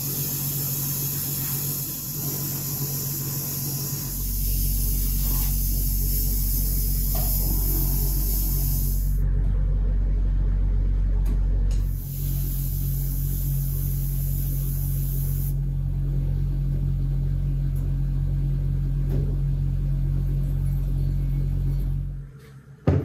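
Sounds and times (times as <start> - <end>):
machine droning low: 0.0 - 22.6.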